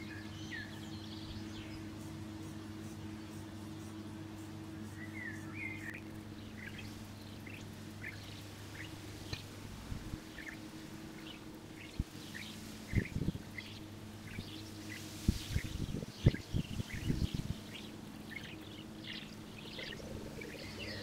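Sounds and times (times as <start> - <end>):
faint low hum: 0.0 - 21.0
small birds chirping: 0.0 - 21.0.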